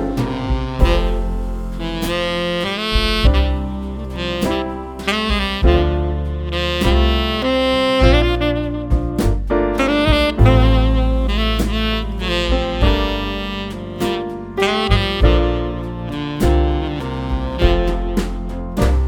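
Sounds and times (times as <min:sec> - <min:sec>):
jazz music with saxophone: 0:00.0 - 0:19.0.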